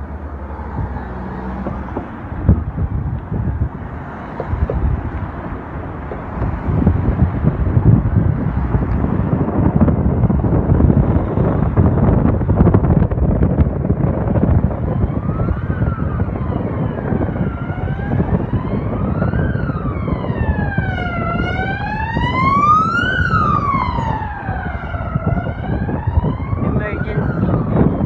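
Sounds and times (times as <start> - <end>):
emergency vehicle siren wailing: 0.0 - 28.0
traffic rumble: 0.0 - 28.0
wind rumble: 0.0 - 28.0.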